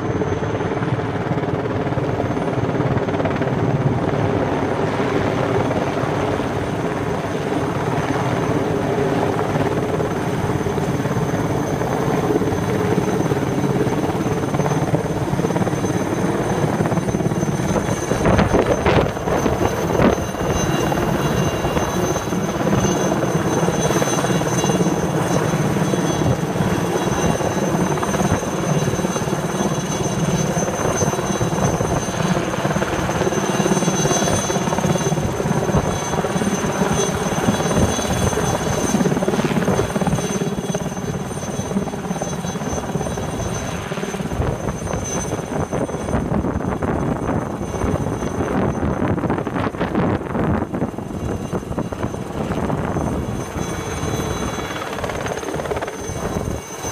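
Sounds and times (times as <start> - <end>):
helicopter flying low overhead: 0.0 - 56.9.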